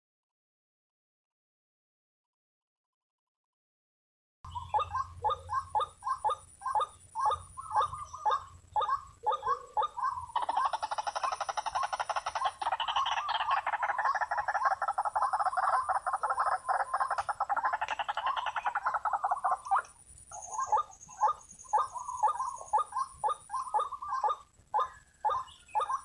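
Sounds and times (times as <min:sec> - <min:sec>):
bird croaking calls: 0:04.5 - 0:26.0.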